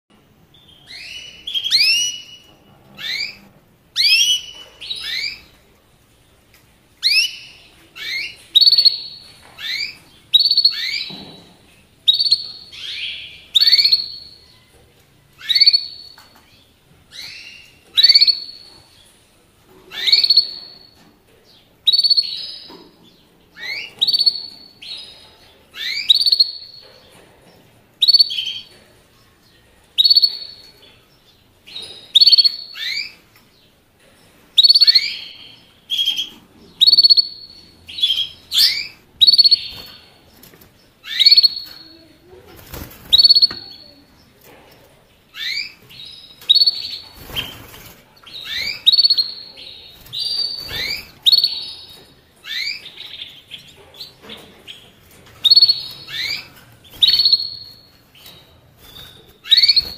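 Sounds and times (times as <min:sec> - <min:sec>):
canary chirping: 0:00.1 - 0:59.9.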